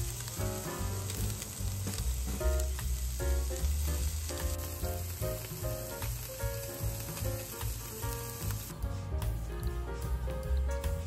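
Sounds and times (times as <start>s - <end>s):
background music with bass: 0.0s - 11.0s
fish sizzling in a pan: 0.0s - 11.0s.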